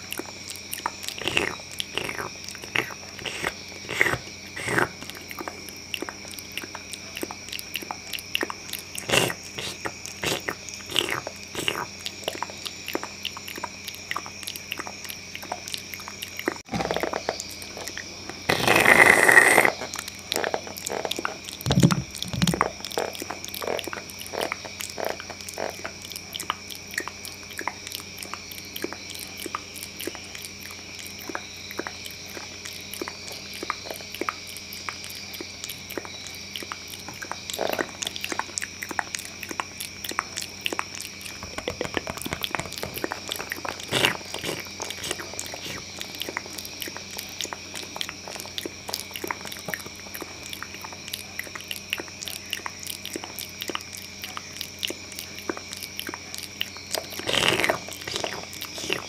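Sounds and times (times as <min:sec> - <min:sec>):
mouth clicks and smacks: 0:00.0 - 0:59.0.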